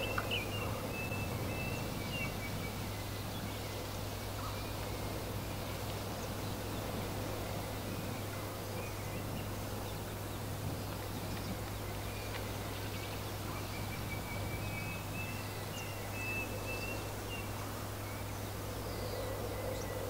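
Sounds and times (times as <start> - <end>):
birds chirping and trilling: 0.0 - 20.0
wind blowing: 0.0 - 20.0.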